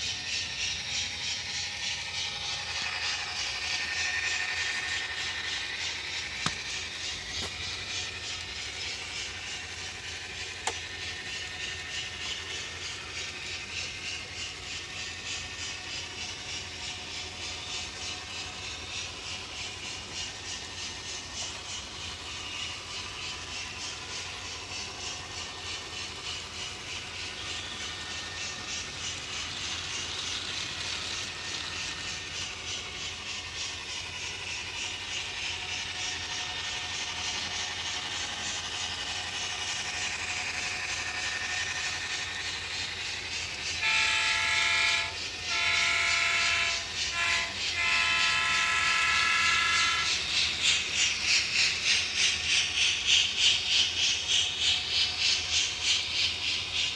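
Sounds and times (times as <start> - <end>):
model train locomotive sound: 0.0 - 56.9.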